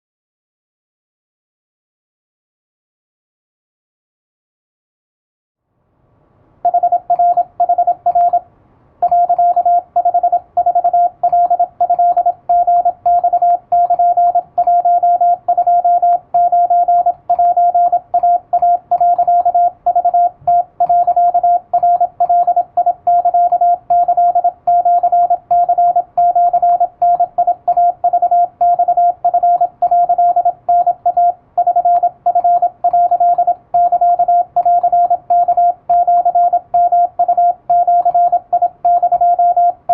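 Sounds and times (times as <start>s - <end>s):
morse code tone: 6.7s - 8.4s, 9.0s - 39.9s.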